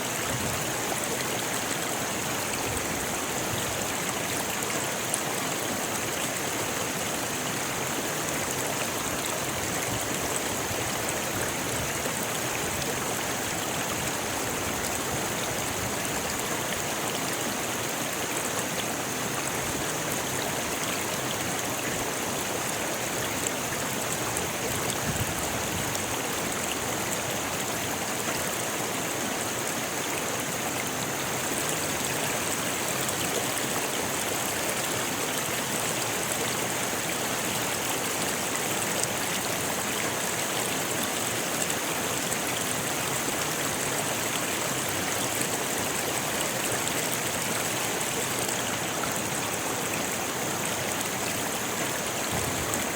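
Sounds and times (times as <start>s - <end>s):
river rushing over stones: 0.0s - 52.9s.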